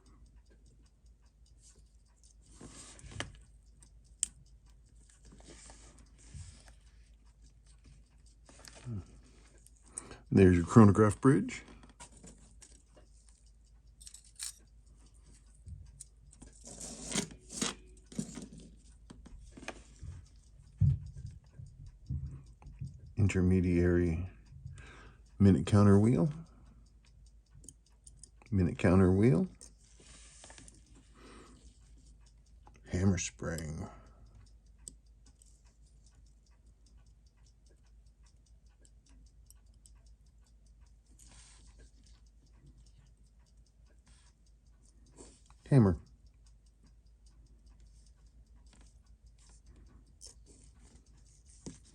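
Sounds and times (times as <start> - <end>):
tweezers clicking on watch parts: 0.0 - 10.1, 11.2 - 23.2, 24.2 - 51.9.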